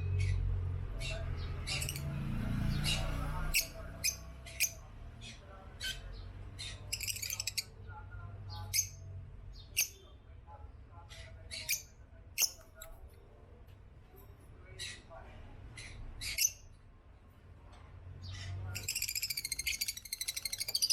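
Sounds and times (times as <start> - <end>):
lovebirds chirping and squawking: 0.0 - 10.2, 11.0 - 13.0, 14.6 - 16.9, 18.1 - 20.9.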